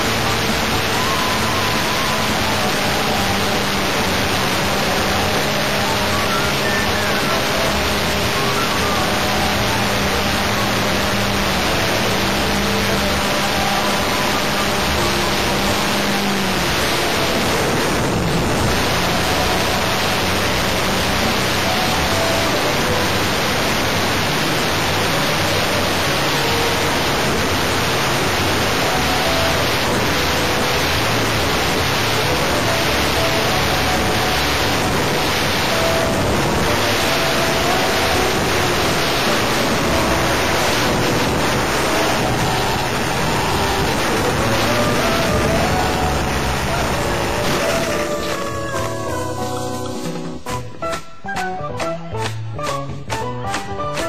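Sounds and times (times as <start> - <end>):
model plane engine buzz: 0.0 - 49.2
airflow over microphone: 0.0 - 51.0.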